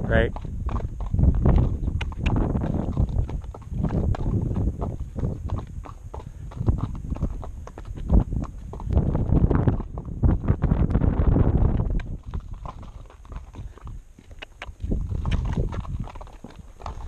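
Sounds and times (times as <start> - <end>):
horse hooves clip-clopping: 0.0 - 17.0.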